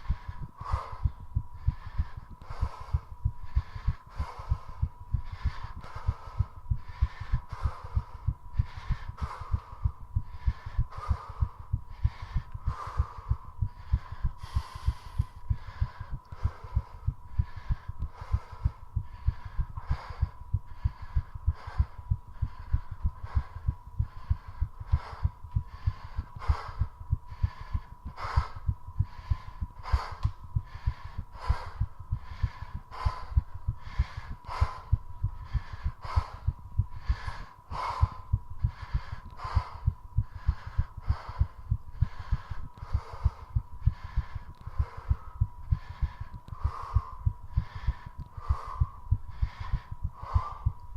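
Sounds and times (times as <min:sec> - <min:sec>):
faint steady whine: 0:00.0 - 0:50.9
fast heartbeat thumps: 0:00.0 - 0:50.9
quick heavy breaths: 0:00.0 - 0:50.9.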